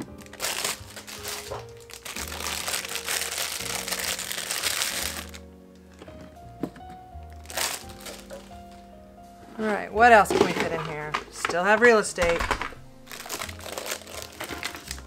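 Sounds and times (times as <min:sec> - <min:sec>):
plastic bag crinkling: 0:00.0 - 0:06.0, 0:07.3 - 0:08.8, 0:10.1 - 0:15.0
background music: 0:00.0 - 0:15.0.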